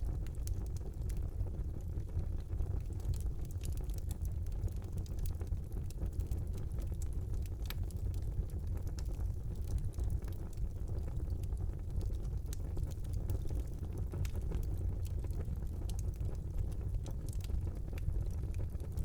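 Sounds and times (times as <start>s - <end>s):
fire crackles and pops: 0.0s - 19.0s
fireplace flames rumbling: 0.0s - 19.0s.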